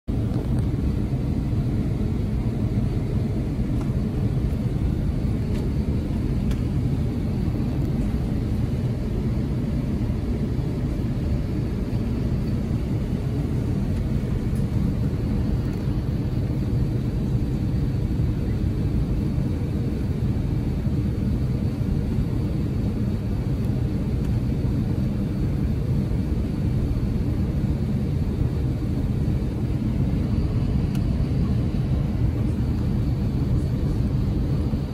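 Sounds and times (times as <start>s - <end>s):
low airplane cabin rumble: 0.0s - 34.9s.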